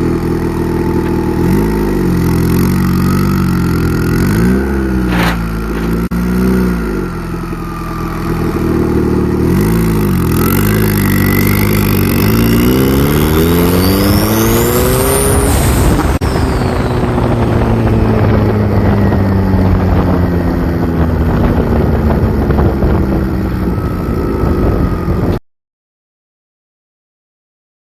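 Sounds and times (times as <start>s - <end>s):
car engine revving: 0.0s - 25.4s.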